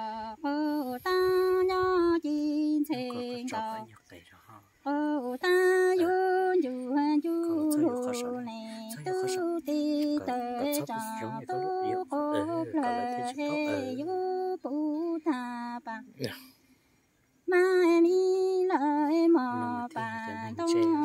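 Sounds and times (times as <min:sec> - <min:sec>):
woman singing unaccompanied: 0:00.0 - 0:03.9, 0:04.8 - 0:16.2, 0:17.4 - 0:21.0.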